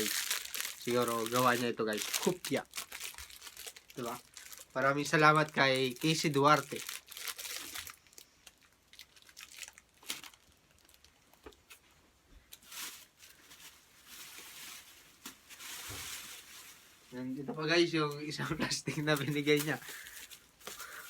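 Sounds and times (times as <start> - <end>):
plastic bag rustling: 0.0 - 11.8, 12.5 - 21.0.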